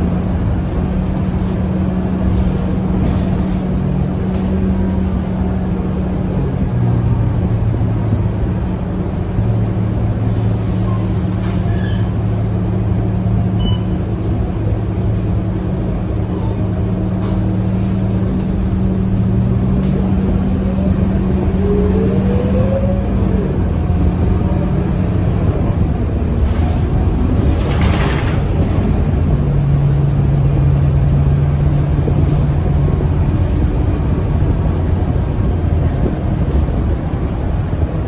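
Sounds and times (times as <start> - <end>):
bus engine drone: 0.0 - 38.0.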